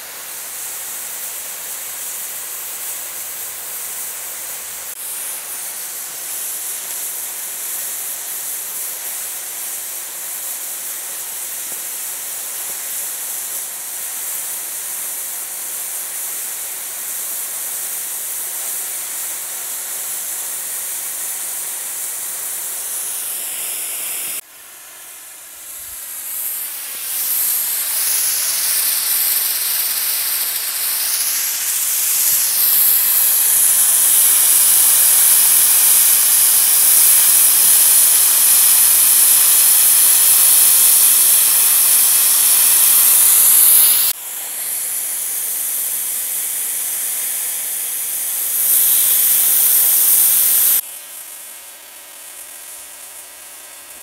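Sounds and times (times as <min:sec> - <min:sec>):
cutting torch hissing: 0:00.0 - 0:54.0.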